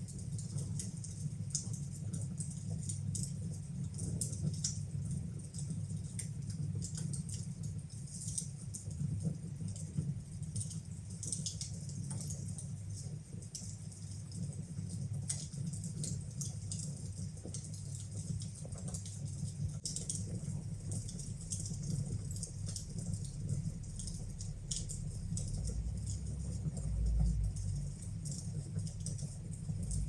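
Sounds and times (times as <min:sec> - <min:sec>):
low fire rumble: 0:00.0 - 0:30.0
wood fire crackling and popping: 0:00.0 - 0:30.0.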